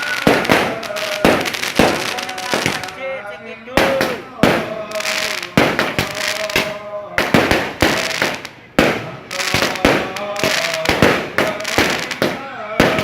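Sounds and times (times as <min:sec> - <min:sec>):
fireworks bangs: 0:00.0 - 0:03.1, 0:03.7 - 0:13.0.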